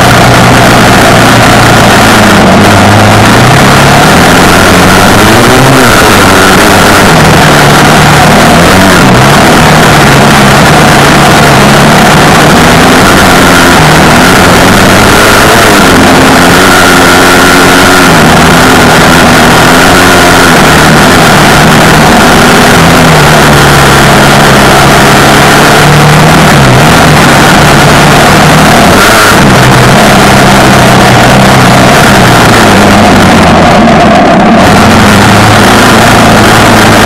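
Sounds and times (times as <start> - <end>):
loud steady rushing noise: 0.0 - 37.0
off-road vehicle engine revving: 0.0 - 37.0.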